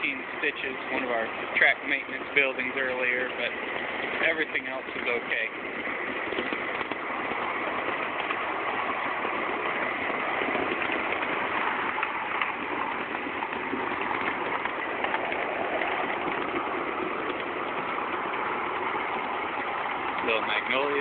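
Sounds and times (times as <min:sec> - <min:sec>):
miniature train running on track: 0:00.0 - 0:21.0.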